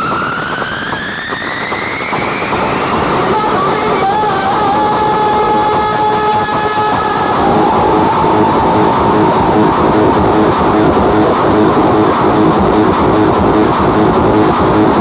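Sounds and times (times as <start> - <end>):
loud distorted music over speakers: 0.0 - 15.0.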